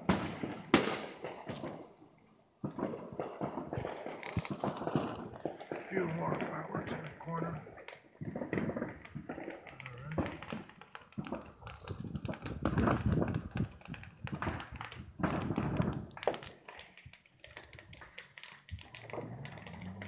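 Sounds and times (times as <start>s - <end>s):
distant fireworks popping and crackling: 0.0s - 20.0s.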